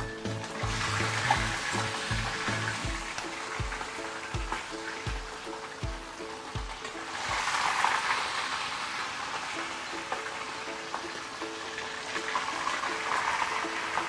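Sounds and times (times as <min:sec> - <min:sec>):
fish deep frying in oil: 0:00.0 - 0:14.0
soft background music: 0:00.0 - 0:14.0.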